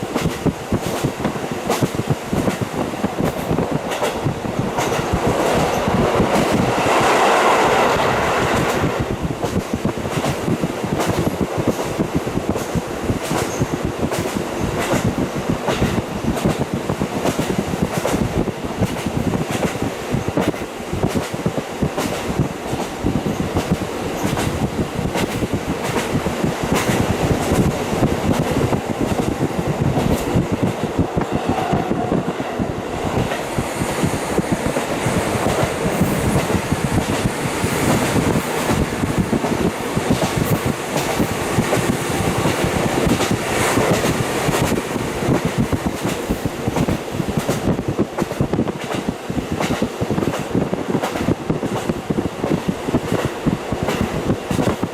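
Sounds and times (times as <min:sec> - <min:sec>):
train rolling and wind noise: 0:00.0 - 0:54.9.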